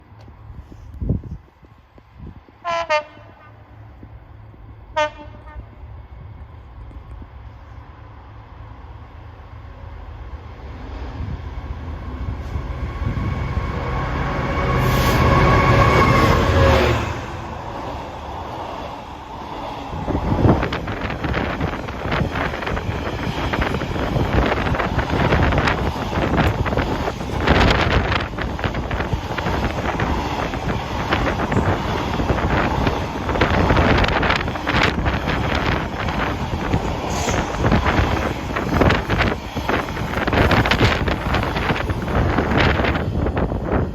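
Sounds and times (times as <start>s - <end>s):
freight train passing: 0.0s - 43.9s
wind buffeting microphone: 0.3s - 3.2s, 10.2s - 43.9s.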